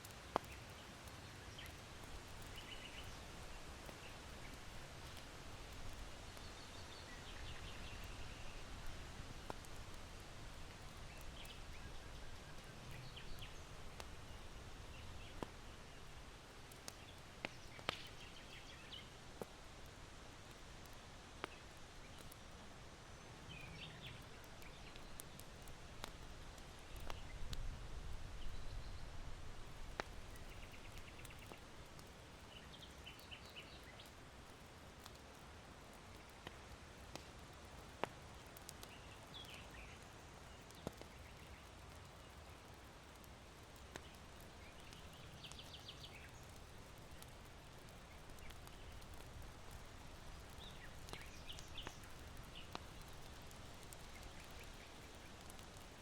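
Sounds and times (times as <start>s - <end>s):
small birds chirping: 0.0s - 19.5s, 21.4s - 27.6s, 28.2s - 37.2s, 38.0s - 56.0s
charcoal fire crackling: 0.0s - 56.0s.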